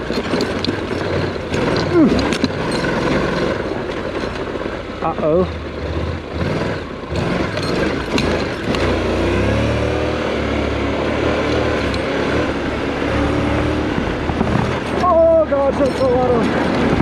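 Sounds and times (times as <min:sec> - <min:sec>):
motorcycle engine running: 0:00.0 - 0:17.0
wind and ground noise: 0:00.0 - 0:17.0.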